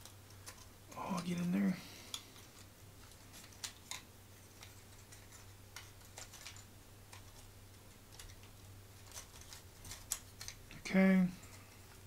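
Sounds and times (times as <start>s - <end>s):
wooden puzzle pieces clicking: 0.0s - 1.3s, 2.1s - 10.8s.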